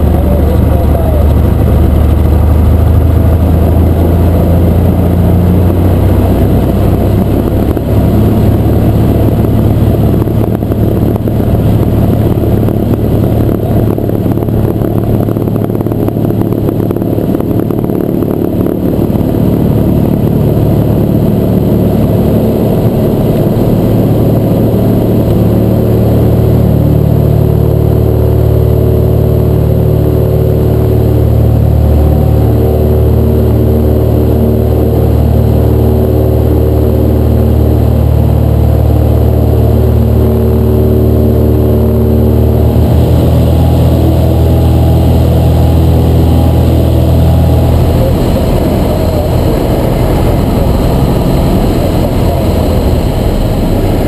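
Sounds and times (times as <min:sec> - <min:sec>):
propeller plane engine running: 0:00.0 - 0:54.0.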